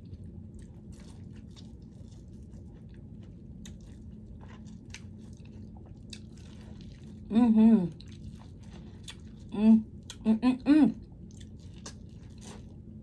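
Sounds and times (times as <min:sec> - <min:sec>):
person chewing corn on the cob: 0:00.0 - 0:07.3, 0:07.9 - 0:10.2, 0:11.1 - 0:13.0.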